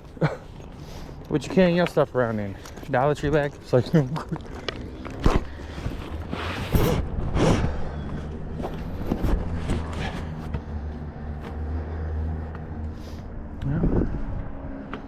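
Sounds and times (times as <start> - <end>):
footsteps on a trail: 0.0 - 13.3.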